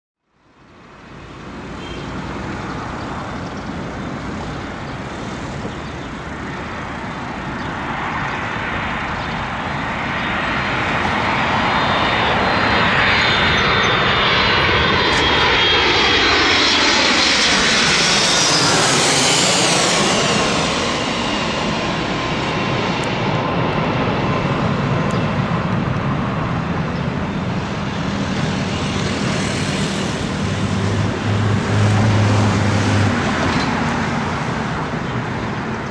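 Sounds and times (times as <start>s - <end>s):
jet airliner passing overhead: 0.4s - 35.9s
high engine whine: 0.5s - 35.9s.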